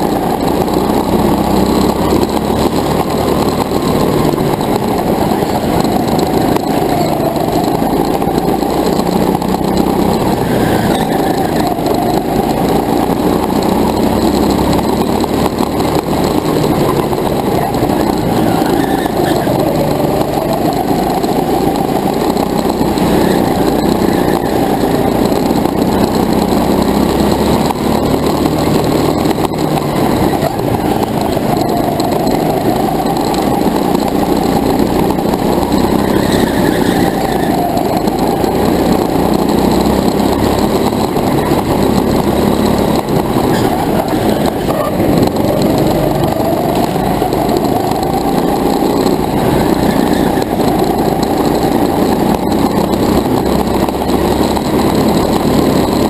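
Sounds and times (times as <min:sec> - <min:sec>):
constant rushing noise: 0:00.0 - 0:56.0
go-kart engine running hard: 0:00.0 - 0:56.0.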